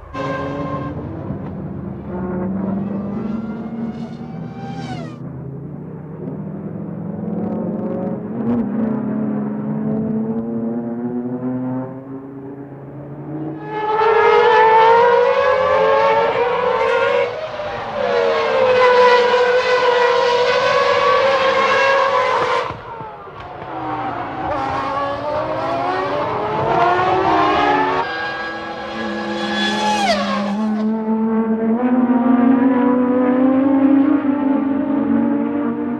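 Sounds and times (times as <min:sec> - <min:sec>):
racing car engines at high revs: 0:00.0 - 0:35.9.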